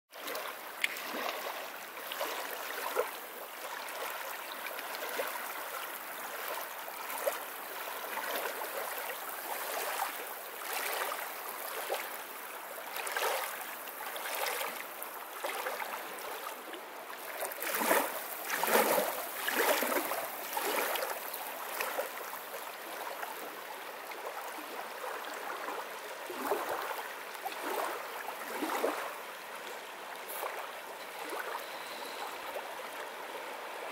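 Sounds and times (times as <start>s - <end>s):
small waves lapping on shore: 0.1s - 33.9s.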